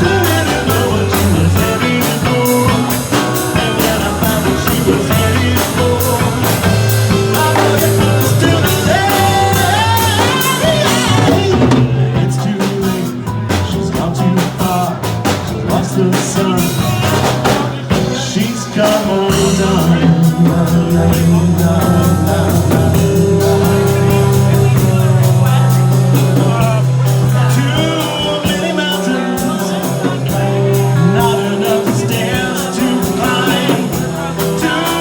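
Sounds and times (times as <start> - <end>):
live rock band: 0.0 - 35.0
person singing: 0.0 - 35.0.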